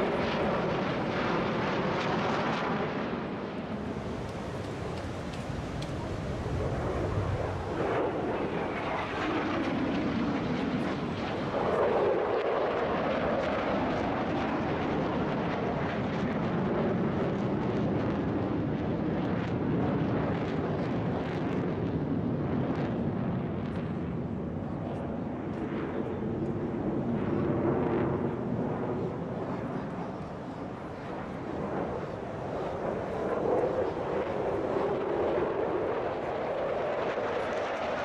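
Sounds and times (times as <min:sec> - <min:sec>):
jet engine rumble flying past: 0:00.0 - 0:38.0.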